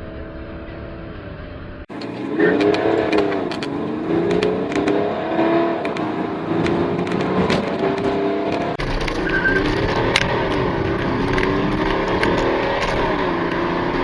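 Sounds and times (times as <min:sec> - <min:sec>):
diesel engine accelerating hard: 0:00.0 - 0:14.0.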